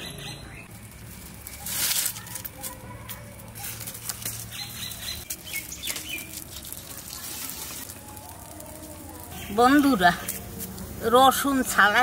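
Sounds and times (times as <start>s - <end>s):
firewood scraping rustle: 0.7s - 11.8s.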